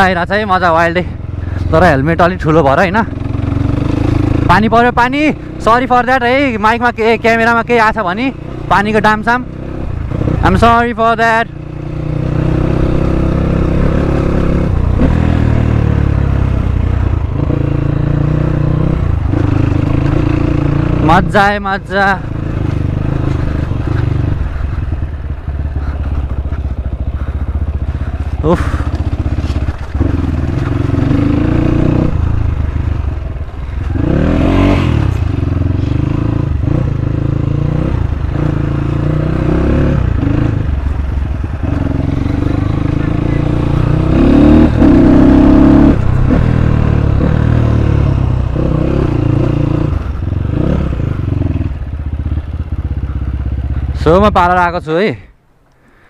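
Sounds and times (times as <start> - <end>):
dirt bike engine running: 0.0 - 55.2.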